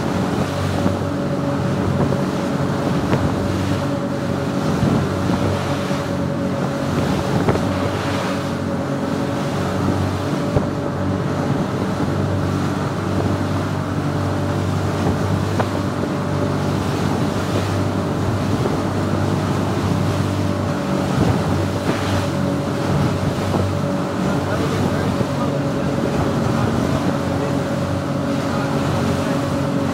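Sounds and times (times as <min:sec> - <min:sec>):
motorboat engine running: 0:00.0 - 0:29.9
wind buffeting microphone: 0:00.0 - 0:29.9.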